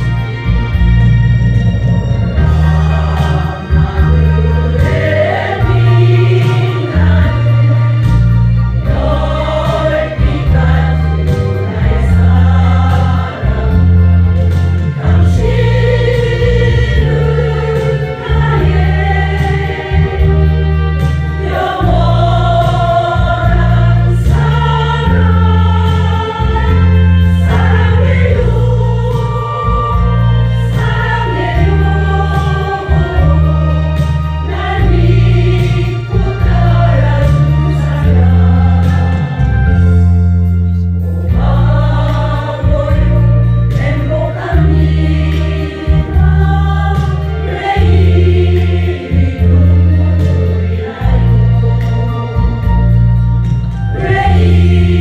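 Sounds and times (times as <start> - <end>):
instrumental accompaniment with bass: 0.0 - 55.0
women's choir singing: 1.9 - 40.0, 41.0 - 55.0.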